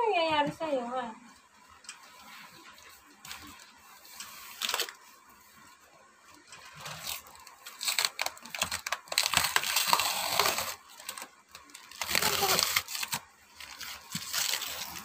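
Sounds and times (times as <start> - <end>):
cardboard and tissue paper rustling: 2.0 - 15.0
paper crinkling and tearing: 2.0 - 15.0.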